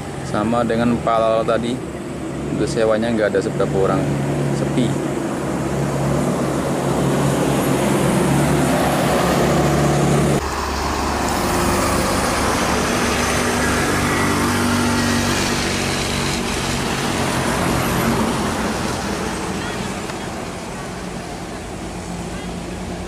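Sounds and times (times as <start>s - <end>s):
diesel bus engine: 0.0s - 23.0s
trucks driving past: 0.0s - 23.0s
tyre and road noise: 0.0s - 23.0s.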